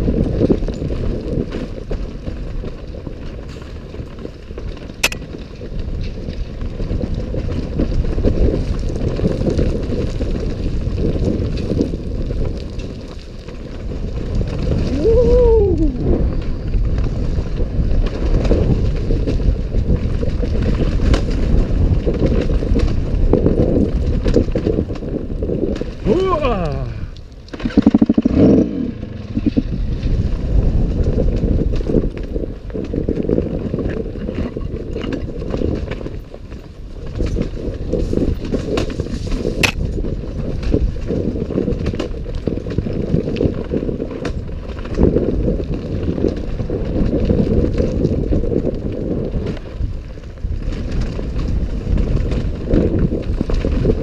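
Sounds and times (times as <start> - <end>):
vehicle rumble and rattle: 0.0 - 54.0
wind on microphone: 0.0 - 54.0.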